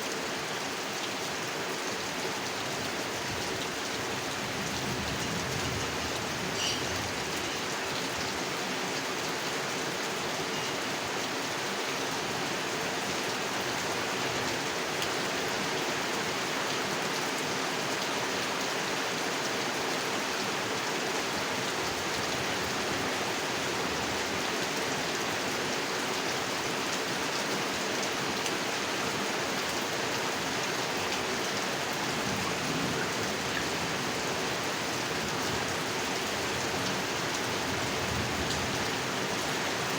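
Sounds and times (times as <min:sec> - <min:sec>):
rain falling on a pond: 0:00.0 - 0:39.9.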